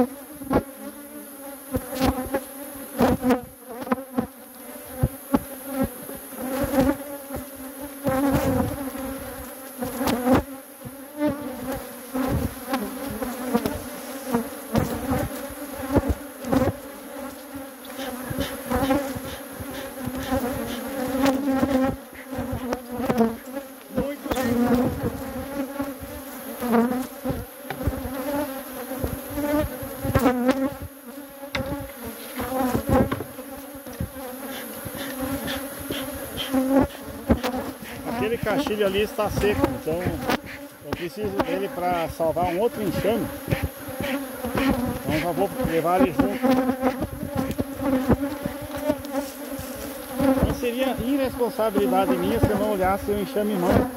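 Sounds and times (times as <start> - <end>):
honeybees buzzing: 0.0 - 53.9
knocks and scrapes of hive frames: 0.0 - 53.9.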